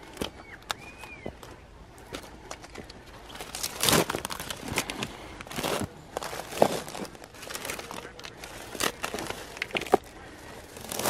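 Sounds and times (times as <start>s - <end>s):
footsteps crunching on dry ground: 0.0s - 11.0s
rustling: 0.0s - 11.0s.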